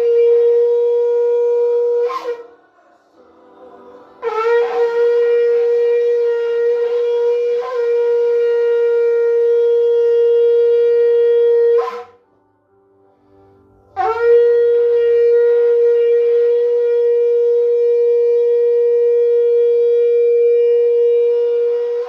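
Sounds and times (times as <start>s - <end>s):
shofar blowing long note: 0.0s - 12.3s, 13.9s - 22.0s.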